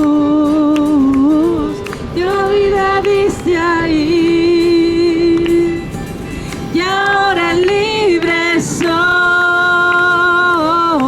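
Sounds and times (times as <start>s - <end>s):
person singing worship song: 0.0s - 11.0s.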